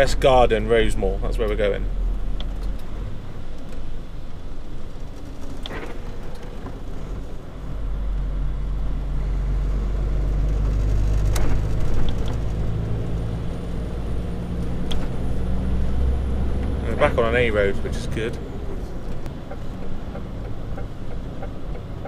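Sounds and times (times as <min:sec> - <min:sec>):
lorry diesel engine running: 0:00.0 - 0:22.0
road rumble: 0:00.0 - 0:22.0.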